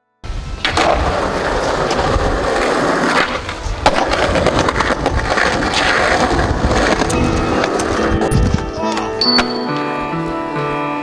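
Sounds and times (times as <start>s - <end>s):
skateboard wheels rolling on concrete: 0.2s - 11.0s
skateboard knocks: 0.6s - 9.7s.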